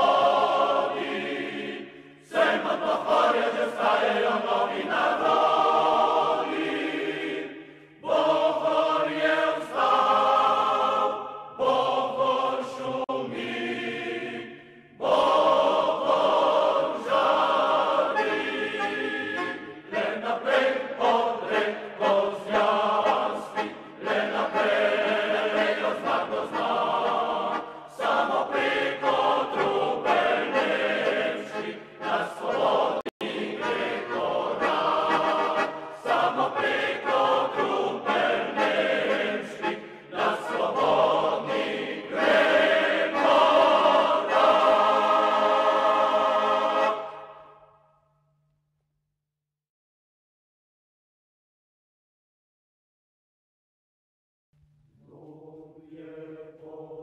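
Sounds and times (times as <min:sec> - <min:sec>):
choral singing: 0:00.0 - 0:47.8, 0:55.0 - 0:57.0.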